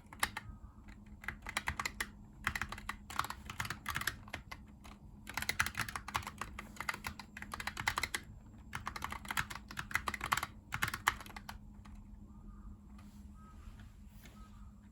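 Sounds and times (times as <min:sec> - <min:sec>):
keyboard typing clicks: 0:00.0 - 0:12.1
low steady hum: 0:00.0 - 0:14.9.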